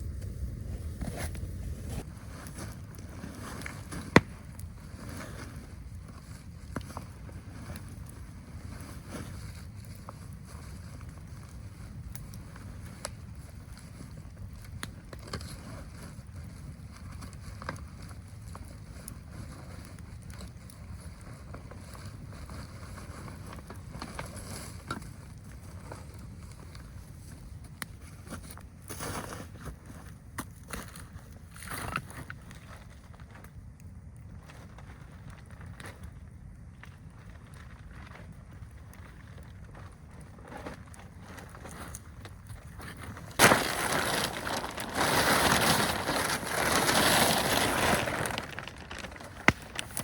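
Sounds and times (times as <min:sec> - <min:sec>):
faint crackles and clicks: 0:00.0 - 0:50.0.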